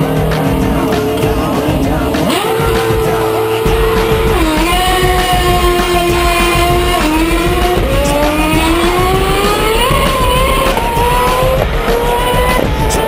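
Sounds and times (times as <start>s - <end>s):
music: 0.0s - 13.0s
racing car engine accelerating: 0.0s - 13.0s.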